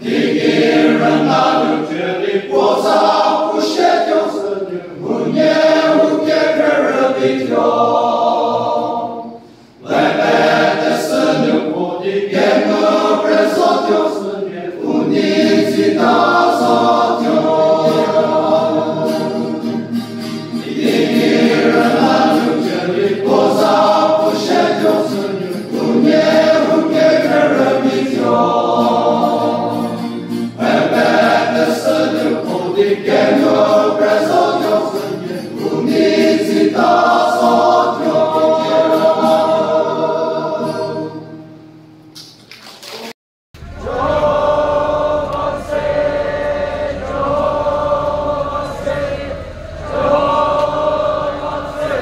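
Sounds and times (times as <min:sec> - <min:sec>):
men's choir singing a hymn: 0:00.0 - 0:41.4, 0:43.6 - 0:52.0.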